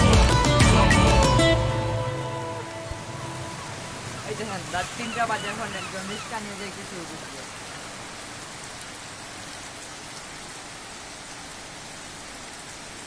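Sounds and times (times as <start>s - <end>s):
heavy rain on floodwater: 0.0s - 13.0s.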